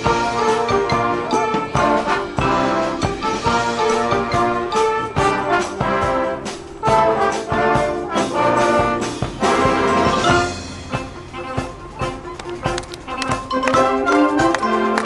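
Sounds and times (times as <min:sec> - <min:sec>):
brass chords: 0:00.0 - 0:15.0
steady drum beat: 0:00.0 - 0:15.0.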